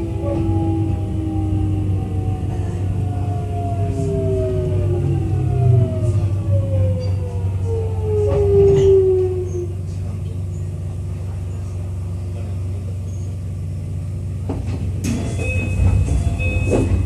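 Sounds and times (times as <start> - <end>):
low hum in train car: 0.0 - 17.0.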